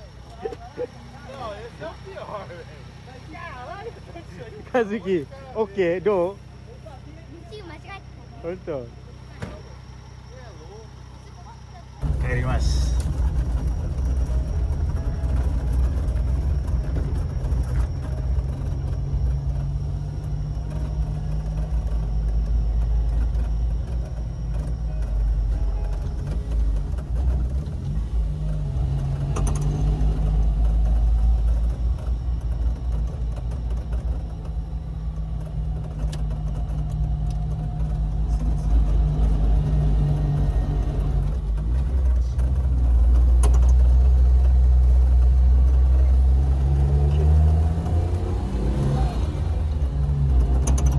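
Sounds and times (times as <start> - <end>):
car engine running: 0.0 - 50.9
road rumble: 0.0 - 50.9.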